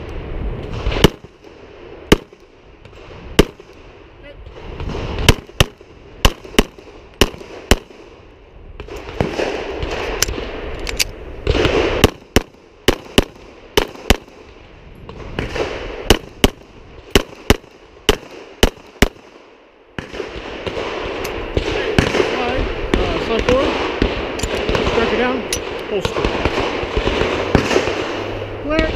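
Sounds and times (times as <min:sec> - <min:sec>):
pistol shots: 0:00.7 - 0:03.9, 0:04.7 - 0:08.2, 0:08.8 - 0:28.9.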